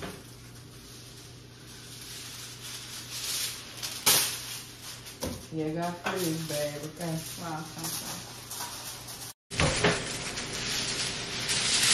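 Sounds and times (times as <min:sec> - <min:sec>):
aluminium foil crinkling: 0:00.0 - 0:11.9.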